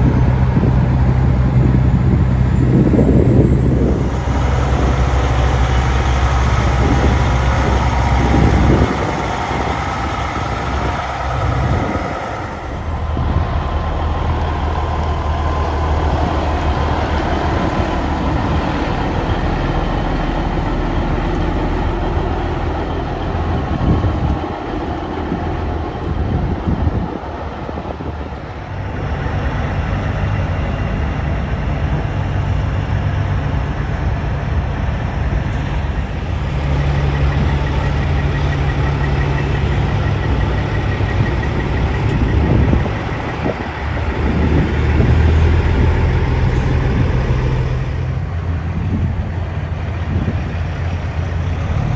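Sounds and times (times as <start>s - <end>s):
diesel truck engines humming: 0.0s - 51.9s
traffic noise: 0.0s - 51.9s.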